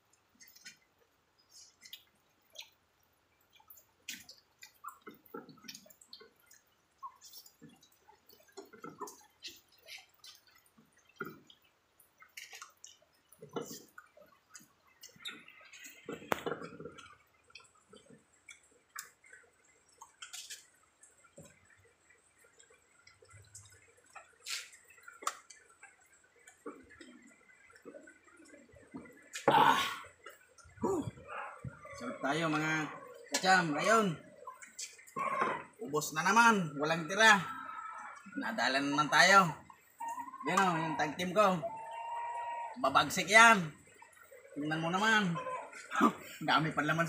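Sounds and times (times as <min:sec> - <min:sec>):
people eating with hands: 0:00.1 - 0:38.8, 0:43.8 - 0:46.4.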